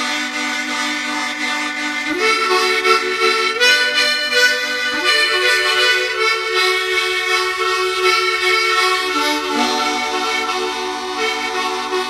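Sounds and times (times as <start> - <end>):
harmonica chords: 0.0 - 12.0.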